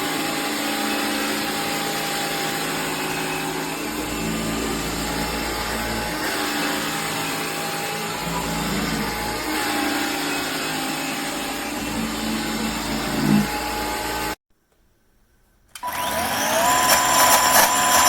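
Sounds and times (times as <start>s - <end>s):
vacuum cleaner running: 0.0s - 14.4s, 15.8s - 18.0s
motor whining as it spins up: 0.6s - 14.4s, 15.8s - 18.0s.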